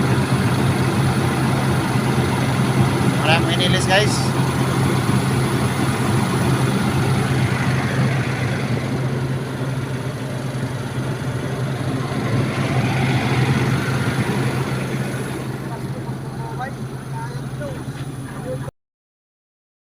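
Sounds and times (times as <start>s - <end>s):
excavator diesel engine running: 0.0s - 18.7s.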